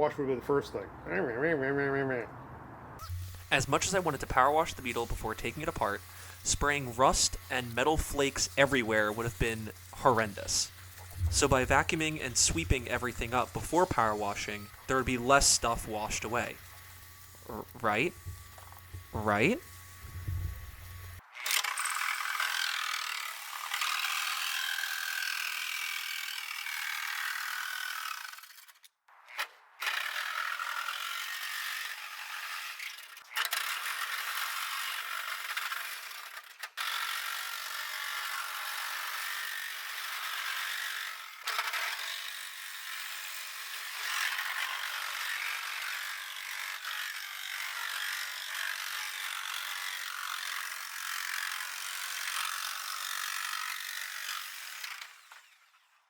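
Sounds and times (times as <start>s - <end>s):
power tool cutting sheet steel: 3.0s - 28.8s, 29.4s - 56.0s.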